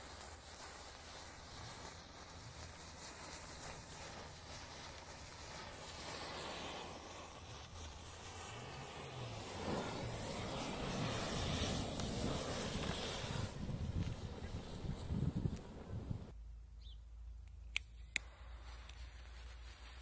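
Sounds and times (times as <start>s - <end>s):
matches fizzing alight: 0.0s - 16.3s.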